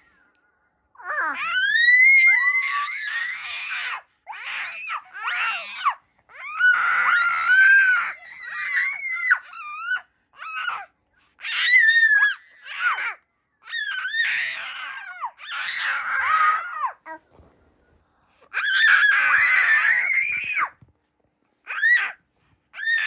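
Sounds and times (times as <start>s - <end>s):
baby shrieking: 1.0s - 17.2s, 18.5s - 20.7s, 21.7s - 22.2s, 22.8s - 23.0s.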